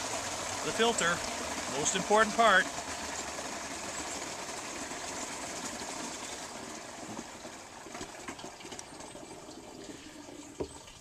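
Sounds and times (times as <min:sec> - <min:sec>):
water pouring into barrel: 0:00.0 - 0:11.0.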